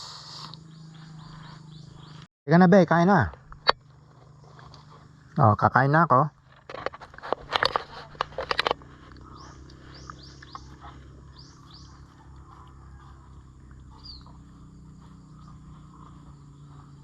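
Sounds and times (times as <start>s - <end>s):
steady low hum: 0.0s - 2.3s, 3.1s - 17.0s.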